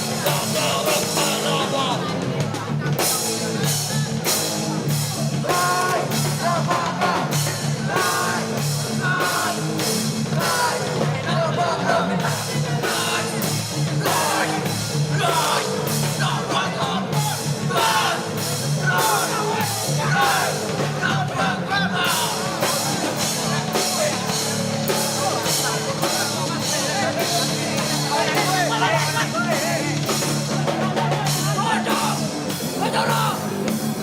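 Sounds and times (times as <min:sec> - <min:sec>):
distorted guitars and bass: 0:00.0 - 0:34.0
drum kit with cymbal hits: 0:00.0 - 0:34.0
shouted vocals: 0:00.0 - 0:34.0.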